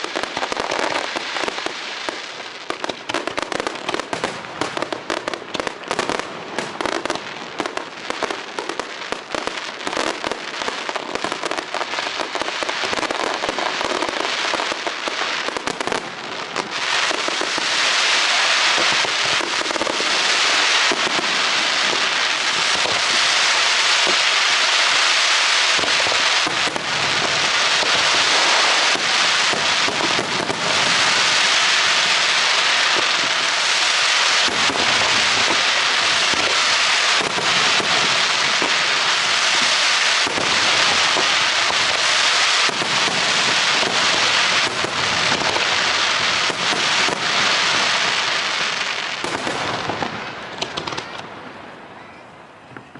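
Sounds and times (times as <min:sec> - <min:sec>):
deep fireworks bangs: 0:00.0 - 0:51.6
fireworks crackling and popping: 0:00.0 - 0:51.9.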